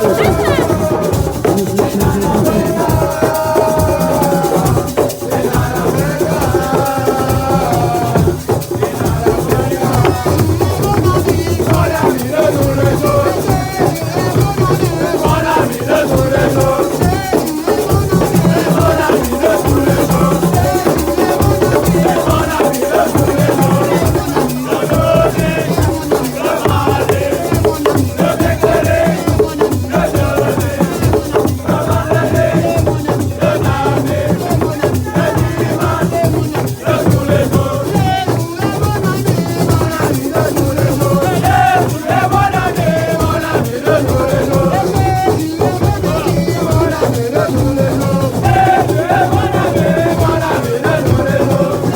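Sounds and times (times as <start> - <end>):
drums and shakers: 0.0 - 51.9
group of voices singing: 0.0 - 51.9.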